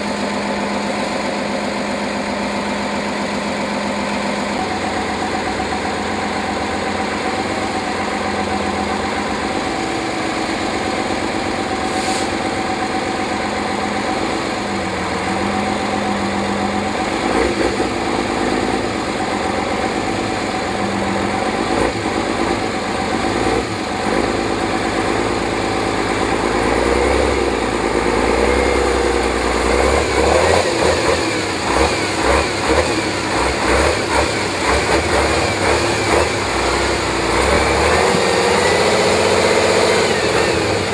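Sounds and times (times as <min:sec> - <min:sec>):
truck engine revving under load: 0:02.5 - 0:40.9.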